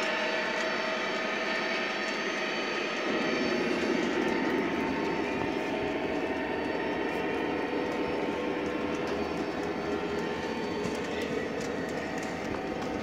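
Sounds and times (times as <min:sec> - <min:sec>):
model train motor whine: 0:00.0 - 0:13.0
wheels rolling rumble: 0:00.0 - 0:13.0.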